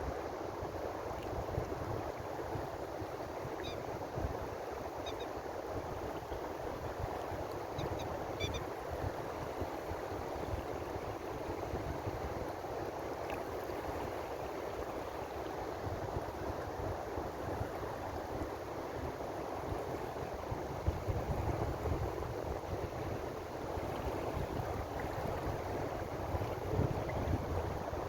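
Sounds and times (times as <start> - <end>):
ocean waves washing on shore: 0.0 - 28.0.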